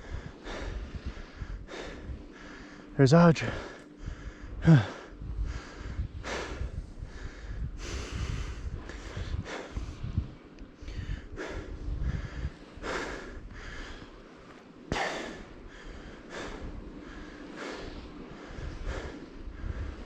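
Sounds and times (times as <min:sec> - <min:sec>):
forceful snorting breaths: 0:00.0 - 0:10.2, 0:10.8 - 0:14.2, 0:14.9 - 0:20.0
wind rumble on microphone: 0:00.0 - 0:20.0.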